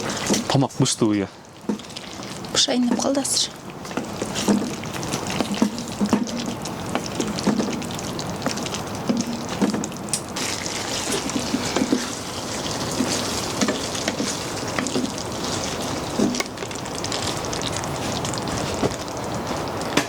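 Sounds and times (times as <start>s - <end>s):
sauce bubbling in a pot: 0.0s - 20.0s.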